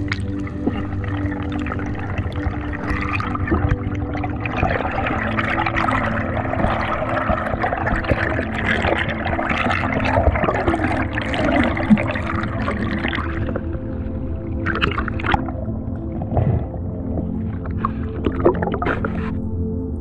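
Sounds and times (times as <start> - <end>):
soft background music: 0.0 - 20.0
water rushing and bubbling: 0.0 - 20.0.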